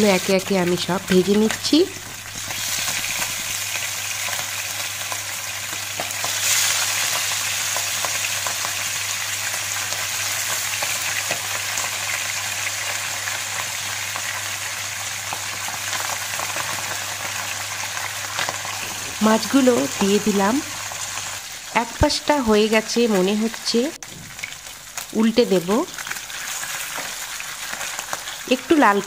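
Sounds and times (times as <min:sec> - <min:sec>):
fish sizzling in a frying pan: 0:00.0 - 0:29.0.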